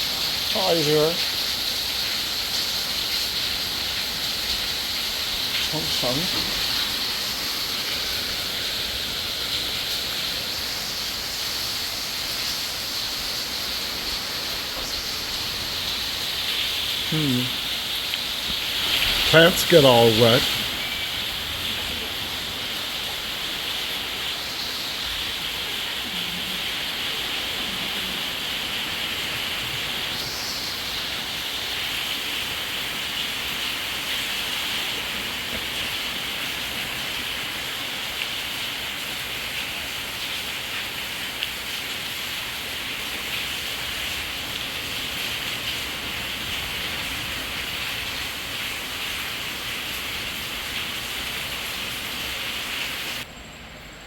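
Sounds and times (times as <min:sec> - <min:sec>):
heavy rain falling: 0:00.0 - 0:53.3.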